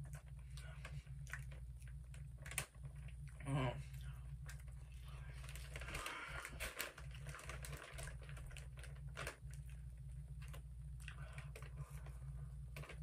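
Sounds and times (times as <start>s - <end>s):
steady low hum: 0.0s - 13.0s
plastic bag crinkling: 0.1s - 3.2s, 4.4s - 12.1s, 12.7s - 13.0s.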